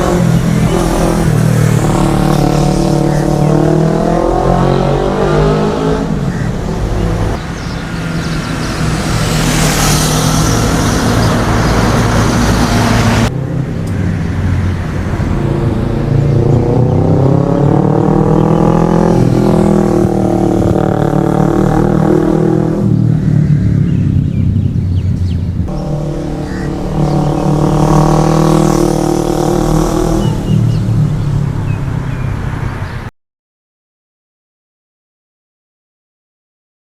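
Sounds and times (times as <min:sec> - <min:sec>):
motorcycle revving past: 0:00.0 - 0:07.4, 0:08.0 - 0:13.3, 0:14.4 - 0:32.3.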